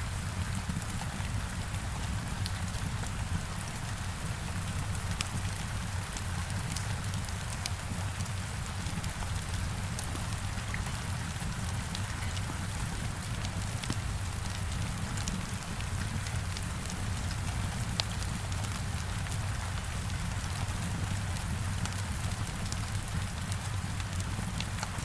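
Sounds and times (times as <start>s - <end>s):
heavy rain on a window: 0.0s - 25.0s
wood fire crackling: 0.3s - 25.0s.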